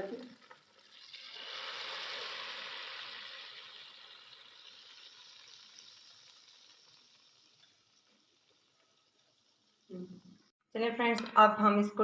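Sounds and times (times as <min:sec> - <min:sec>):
hot oil sizzling: 0:00.0 - 0:10.5.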